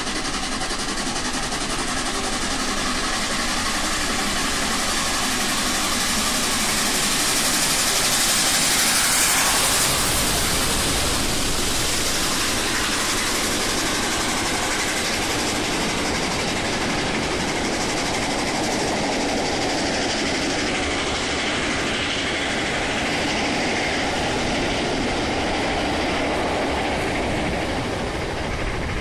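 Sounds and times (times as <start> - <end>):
train wheels clattering on rails: 0.0 - 29.0.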